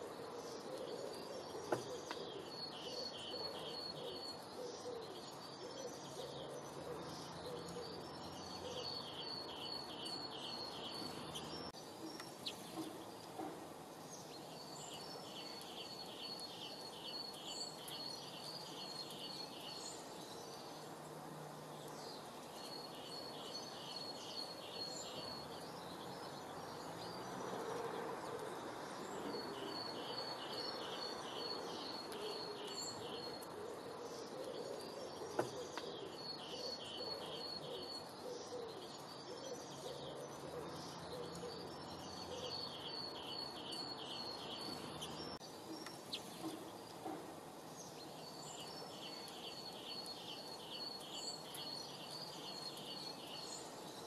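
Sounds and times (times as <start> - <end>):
outdoor ambience hiss: 0.0 - 54.0.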